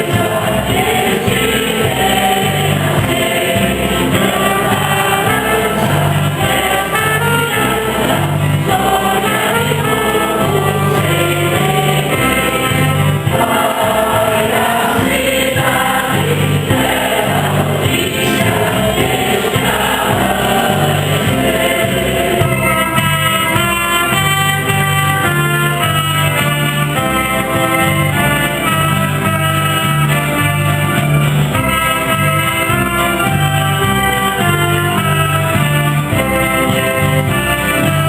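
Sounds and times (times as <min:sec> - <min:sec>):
choir singing a hymn: 0:00.0 - 0:38.0
instrumental accompaniment: 0:00.0 - 0:38.0
pulsing bass line: 0:00.0 - 0:38.0.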